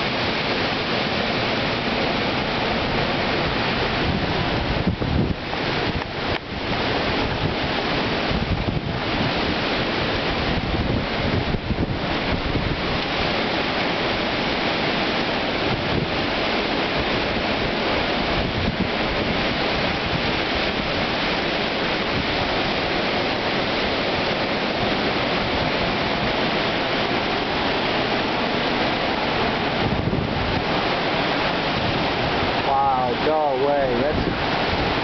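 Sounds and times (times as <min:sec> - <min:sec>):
strong wind blowing: 0:00.0 - 0:35.0.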